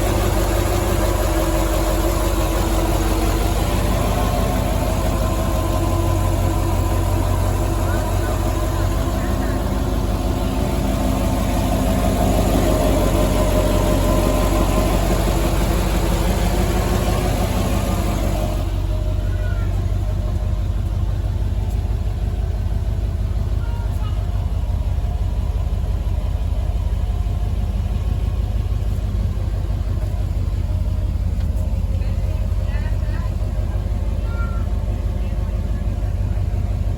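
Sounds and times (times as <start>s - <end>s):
engine running with fast beat: 0.0s - 36.9s.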